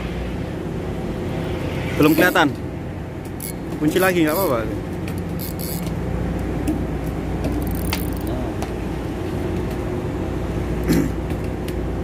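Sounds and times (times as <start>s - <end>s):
ship engine drone: 0.0s - 12.0s.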